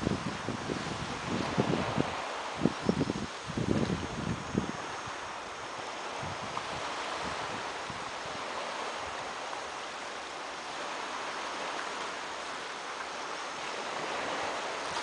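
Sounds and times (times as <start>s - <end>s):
small waves washing onto sand: 0.0s - 15.0s.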